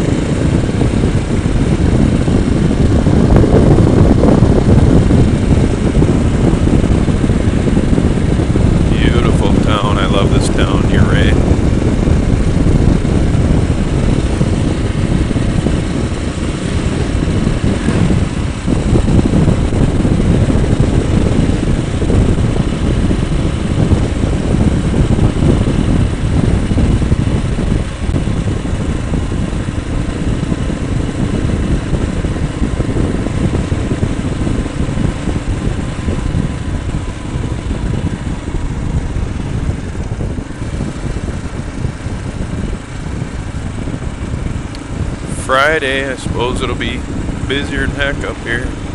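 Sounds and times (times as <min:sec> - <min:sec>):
motorcycle engine drone: 0:00.0 - 0:48.9
wind and road noise: 0:00.0 - 0:48.9.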